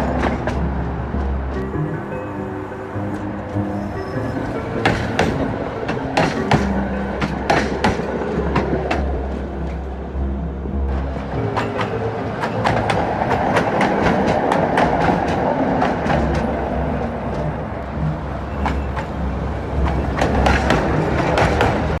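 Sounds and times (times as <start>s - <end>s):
tram wheels knocking over rail joints: 0.0s - 1.9s, 3.0s - 10.1s, 10.8s - 22.0s
tram running rumble: 0.0s - 22.0s.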